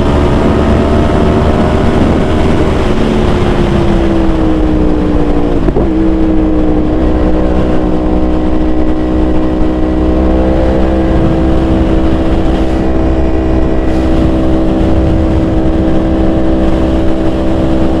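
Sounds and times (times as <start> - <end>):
motorcycle engine running: 0.0 - 18.0
wind rumble: 0.0 - 18.0.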